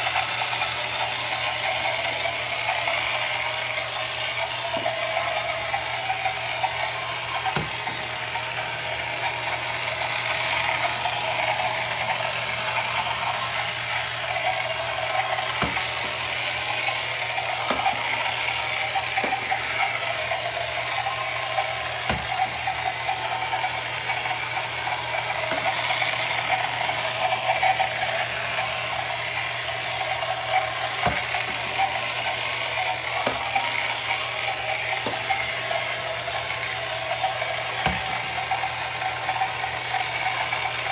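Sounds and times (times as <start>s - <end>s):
toy boat motor whirring: 0.0s - 40.9s.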